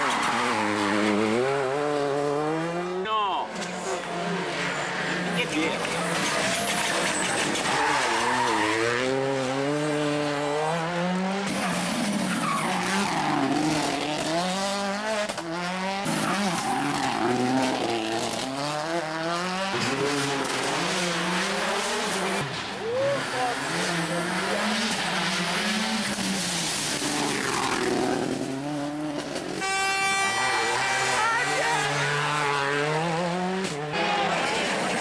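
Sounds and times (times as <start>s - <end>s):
rally car engine revving hard: 0.0s - 3.0s, 3.8s - 29.7s, 30.4s - 35.0s.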